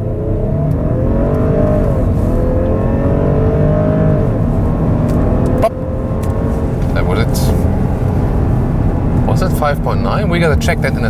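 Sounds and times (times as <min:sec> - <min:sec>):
car engine revving at full throttle: 0:00.0 - 0:11.0.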